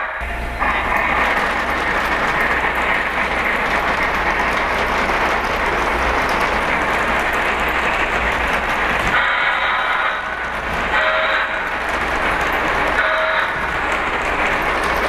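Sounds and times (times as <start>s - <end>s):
model train wheels on track: 0.0s - 15.0s.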